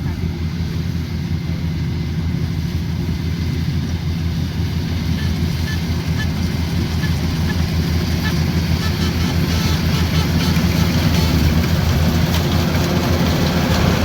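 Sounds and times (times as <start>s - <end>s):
diesel engine pulsing drone: 0.0s - 14.0s.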